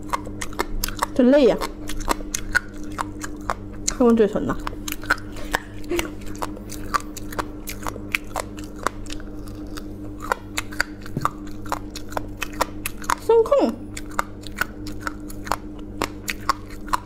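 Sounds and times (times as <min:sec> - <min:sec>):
crunchy chewing: 0:00.0 - 0:17.0
steady low hum: 0:00.0 - 0:17.0.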